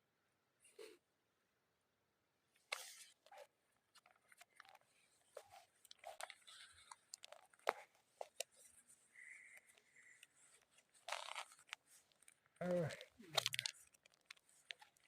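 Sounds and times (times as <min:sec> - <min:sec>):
eating from a foil tray: 0:02.8 - 0:15.0.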